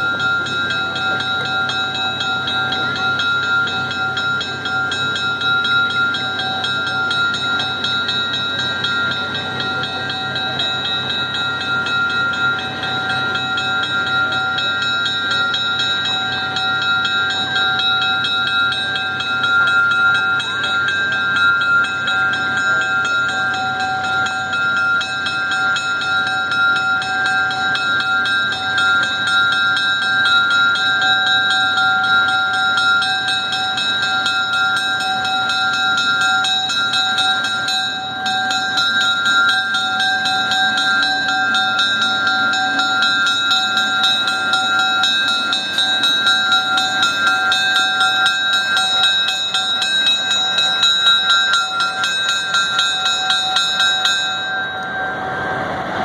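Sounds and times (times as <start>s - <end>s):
bell ringing: 0.0s - 56.0s
diesel locomotive running: 0.0s - 56.0s.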